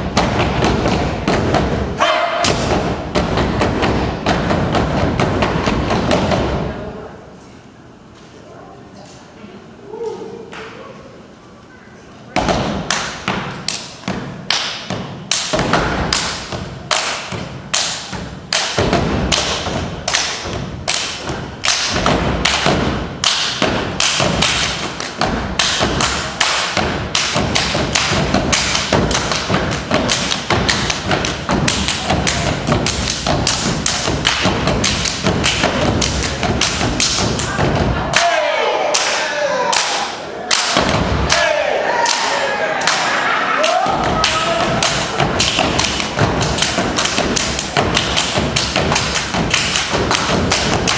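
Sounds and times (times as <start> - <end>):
rhythmic stomping and clapping: 0.0 - 6.9, 12.3 - 50.9.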